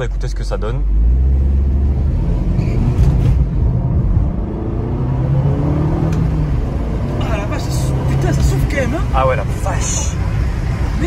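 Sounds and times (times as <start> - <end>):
car engine accelerating hard: 0.1 - 11.0.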